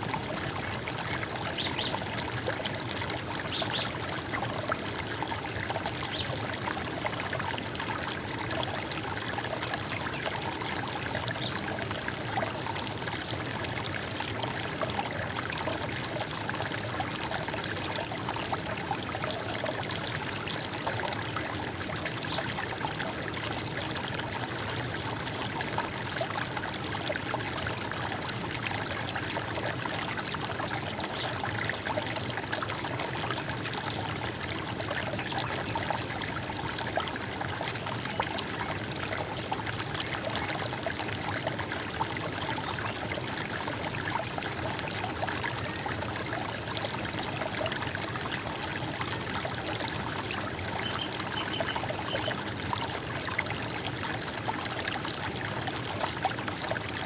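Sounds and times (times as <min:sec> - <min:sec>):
running water gurgling: 0:00.0 - 0:57.0.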